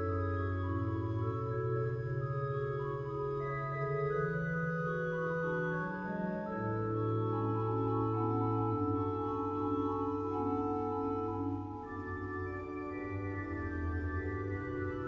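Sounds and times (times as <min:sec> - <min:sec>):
organ music: 0:00.0 - 0:15.0.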